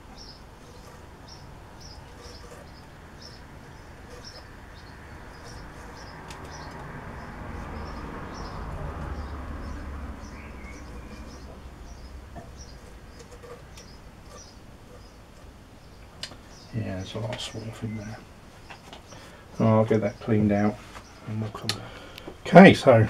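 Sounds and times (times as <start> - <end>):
small bird chirping: 0.0 - 19.7.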